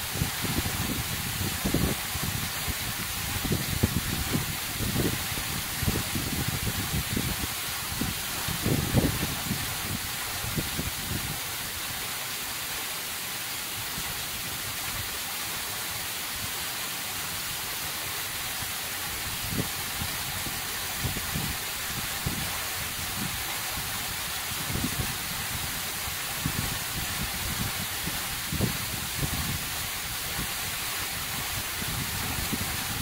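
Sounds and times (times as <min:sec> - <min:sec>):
waterfall splashing into pool: 0:00.0 - 0:33.0.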